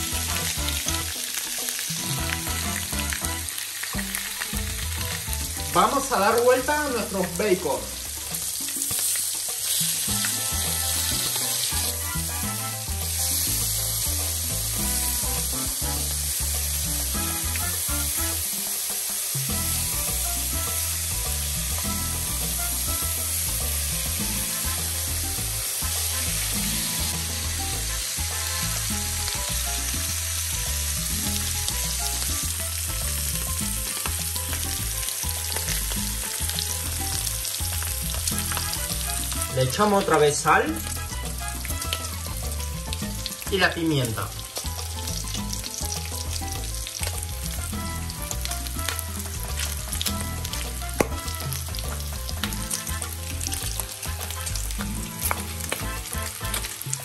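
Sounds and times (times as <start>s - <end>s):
bacon sizzling on grill pan: 0.0s - 57.0s.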